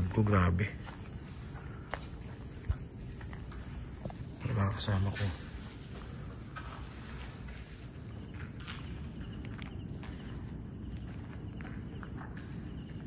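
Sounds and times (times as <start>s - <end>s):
crickets chirping: 0.0s - 13.0s
footsteps: 0.0s - 13.0s.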